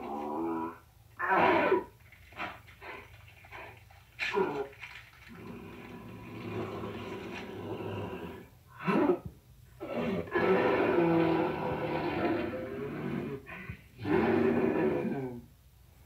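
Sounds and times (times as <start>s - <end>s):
animal growling and snarling: 0.0s - 15.5s.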